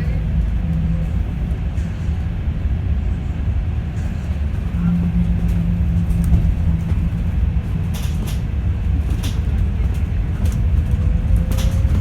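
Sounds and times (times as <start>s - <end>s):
bus rumbling: 0.0s - 12.0s.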